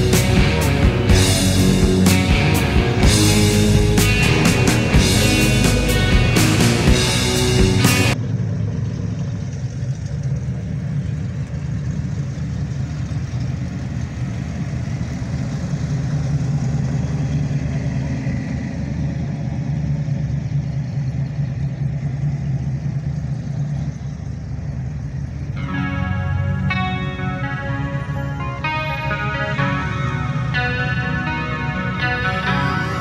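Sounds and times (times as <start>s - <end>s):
cars rolling past: 0.0s - 33.0s.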